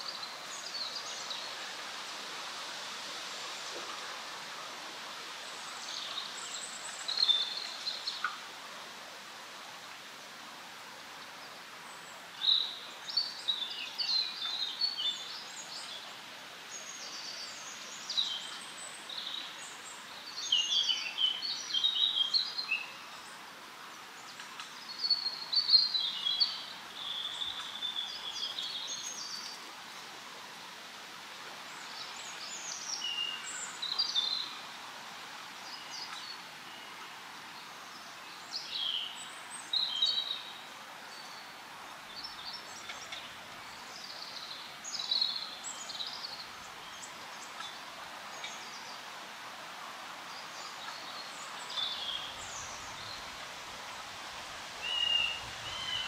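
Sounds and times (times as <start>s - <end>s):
songbirds singing: 0.0s - 1.8s, 5.4s - 8.5s, 11.2s - 30.1s, 31.6s - 56.0s
wind in leaves: 0.0s - 56.0s.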